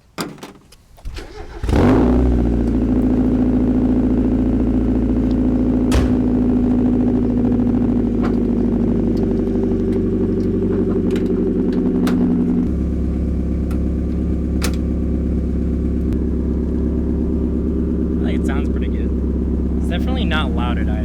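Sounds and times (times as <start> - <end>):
car engine idling: 0.8 - 21.0.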